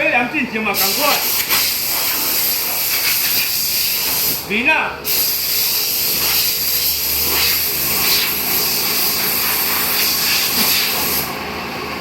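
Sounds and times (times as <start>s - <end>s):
spray gun hissing: 0.8s - 4.4s, 5.1s - 11.3s.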